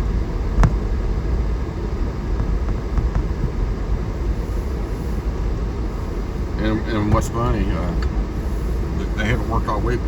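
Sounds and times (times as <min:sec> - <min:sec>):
car heater blower fan: 0:00.0 - 0:10.0
vehicle driving rumble: 0:00.0 - 0:10.0.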